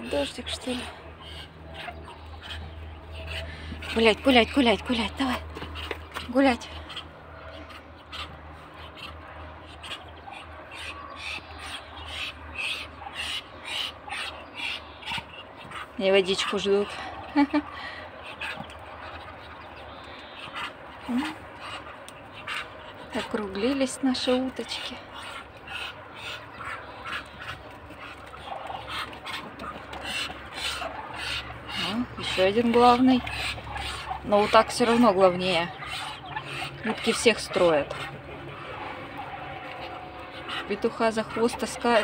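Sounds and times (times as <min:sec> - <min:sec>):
ducks hissing: 0:00.0 - 0:42.0.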